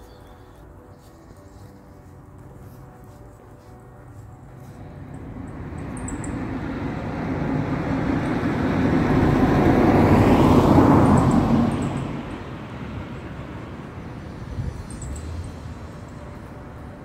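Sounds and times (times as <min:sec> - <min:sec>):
road vehicle passing by: 0:00.0 - 0:17.0.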